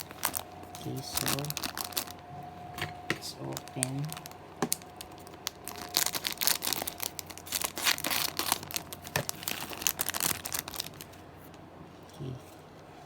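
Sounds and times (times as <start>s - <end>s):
packaging crinkling and tearing: 0.0s - 2.3s, 3.2s - 11.6s.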